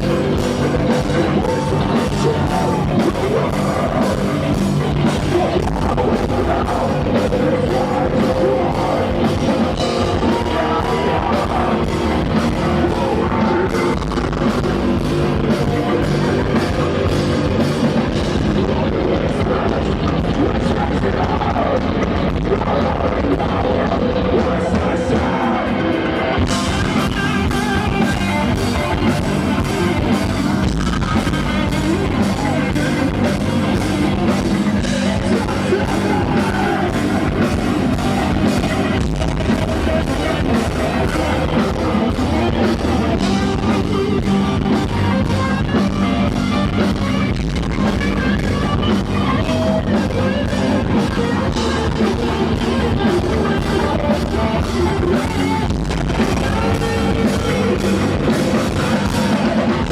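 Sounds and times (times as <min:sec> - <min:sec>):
bass guitar: 0:00.0 - 0:59.9
drum kit: 0:00.0 - 0:59.9
electric guitar: 0:00.0 - 0:59.9
person singing: 0:00.0 - 0:59.9.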